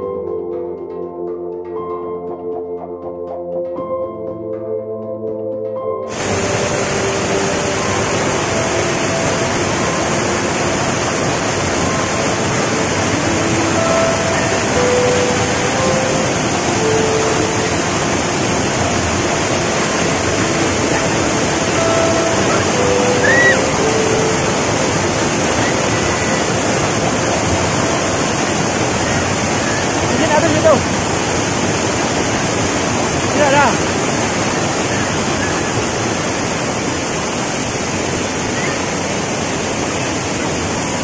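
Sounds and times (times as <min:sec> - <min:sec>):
waterfall rushing: 0:06.1 - 0:41.0.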